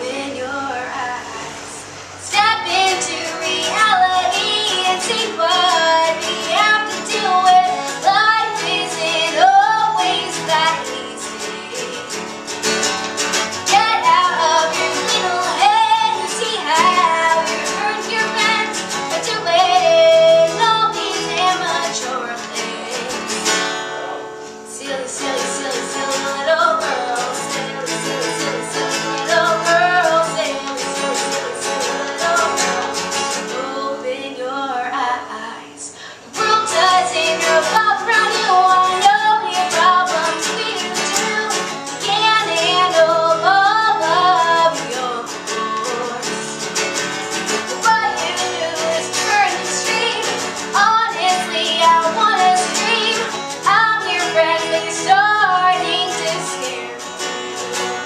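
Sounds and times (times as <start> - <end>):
woman singing: 0.0 - 12.9, 13.6 - 57.2
acoustic guitar strumming: 0.0 - 58.0.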